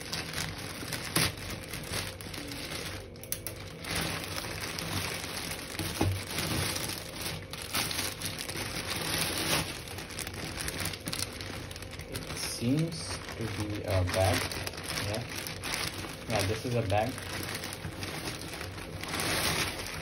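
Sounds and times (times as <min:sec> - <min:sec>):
plastic mailer crinkling: 0:00.0 - 0:20.0
plastic wrap crinkling: 0:00.0 - 0:20.0
scissors cutting plastic: 0:00.0 - 0:20.0.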